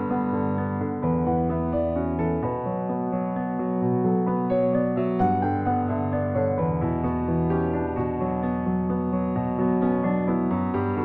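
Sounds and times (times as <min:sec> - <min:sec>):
soft keyboard chords: 0:00.0 - 0:11.0.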